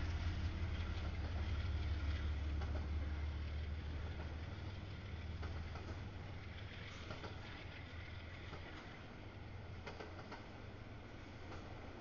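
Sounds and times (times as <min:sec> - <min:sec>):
freight train rumbling and rattling: 0:00.0 - 0:12.0.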